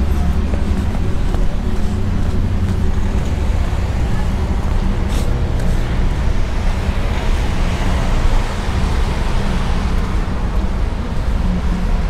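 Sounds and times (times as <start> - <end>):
passing cars rumble: 0.0 - 12.0.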